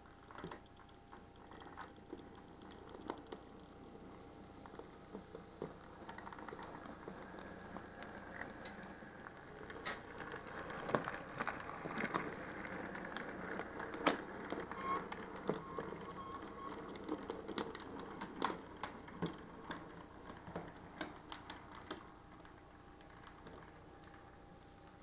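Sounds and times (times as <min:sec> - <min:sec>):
low motor hum: 0:00.0 - 0:25.0
wheels clicking over rail joints: 0:00.0 - 0:25.0.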